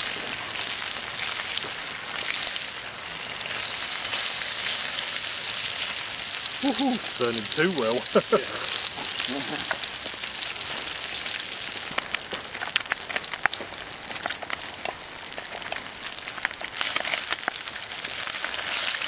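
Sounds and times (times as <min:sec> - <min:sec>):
meat sizzling with pops: 0:00.0 - 0:19.0.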